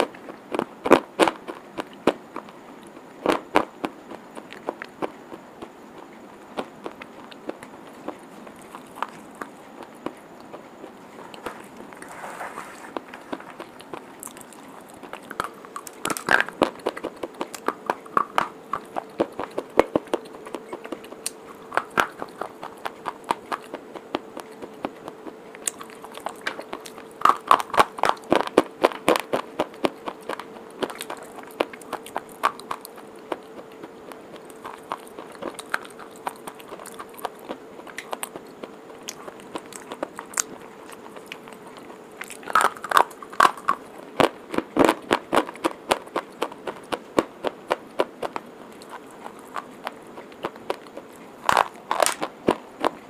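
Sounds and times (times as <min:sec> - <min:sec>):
chewing crunchy chalk: 0:00.0 - 0:53.0.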